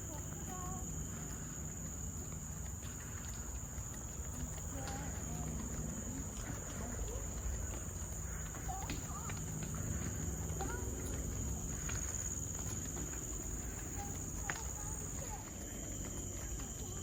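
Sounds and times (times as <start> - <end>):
crickets trilling: 0.0 - 17.0
low background rumble: 0.0 - 17.0.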